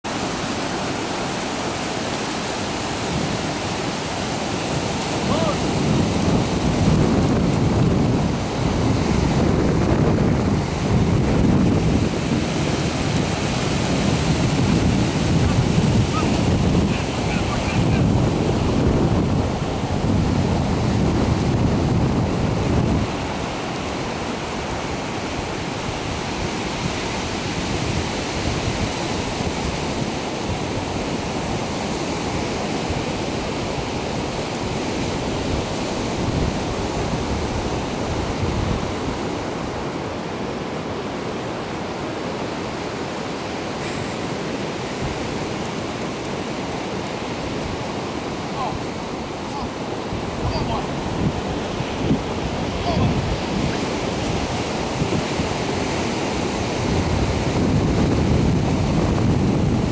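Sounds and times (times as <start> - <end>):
ocean surf breaking: 0.0 - 59.9
wind rumble on microphone: 1.3 - 59.9.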